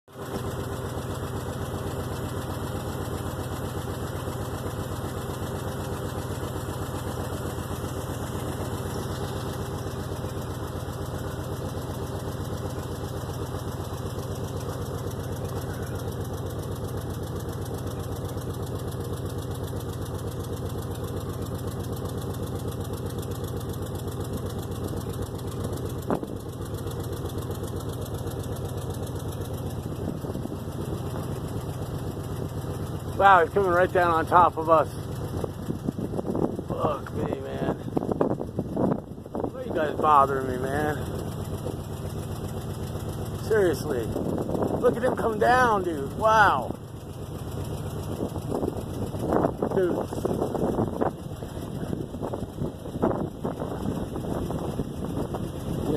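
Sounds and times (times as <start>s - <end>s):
engine idling: 0.1s - 55.9s.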